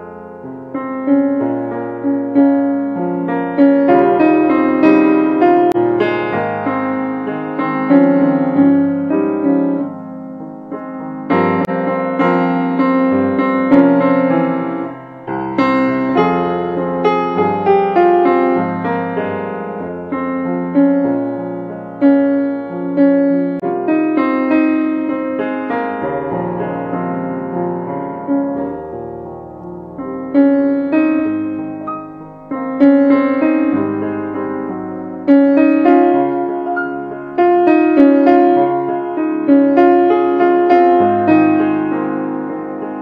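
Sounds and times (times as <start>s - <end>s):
piano music: 0.0s - 43.0s.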